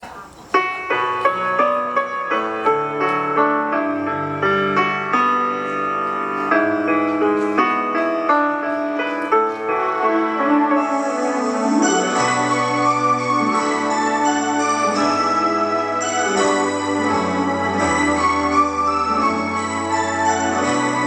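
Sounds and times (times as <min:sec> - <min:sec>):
piano music: 0:00.4 - 0:21.0.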